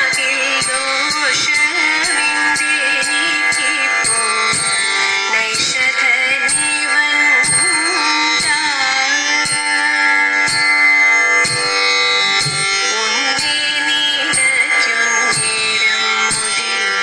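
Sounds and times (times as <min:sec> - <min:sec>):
person singing melody: 0:00.0 - 0:10.7, 0:11.4 - 0:17.0
sharp beat keeping time: 0:00.0 - 0:17.0
sustained instrumental accompaniment: 0:00.0 - 0:17.0.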